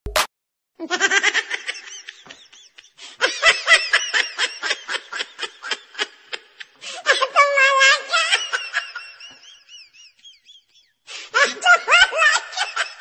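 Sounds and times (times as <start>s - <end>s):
laughter in bursts: 0.8s - 13.0s.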